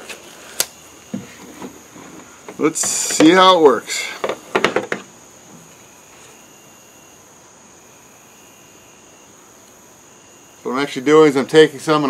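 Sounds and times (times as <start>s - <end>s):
lower insect trill: 0.0s - 12.0s
insects trilling high: 0.2s - 12.0s.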